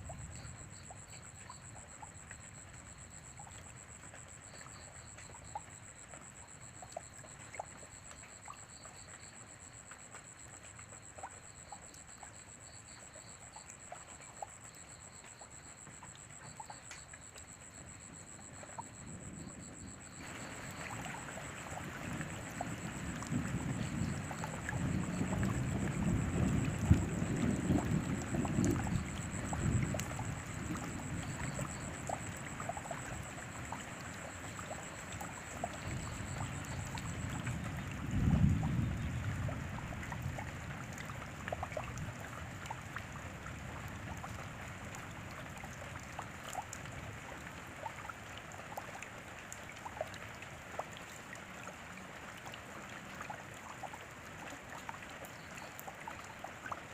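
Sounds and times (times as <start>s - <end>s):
rain falling steadily: 0.0s - 56.9s.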